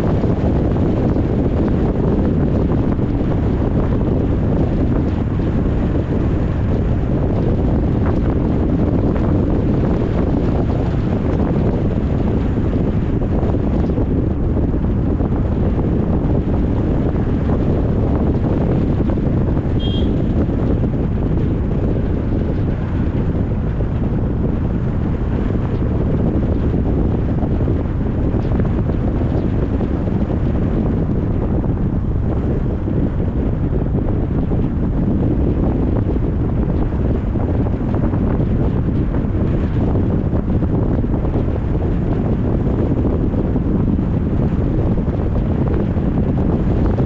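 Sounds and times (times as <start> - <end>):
road rumble: 0.0 - 47.0
wind buffeting microphone: 0.0 - 47.0.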